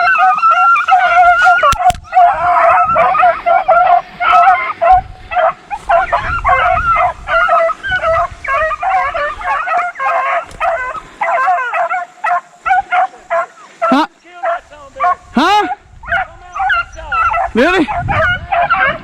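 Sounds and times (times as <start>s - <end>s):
hounds baying and yelping: 0.0s - 19.0s.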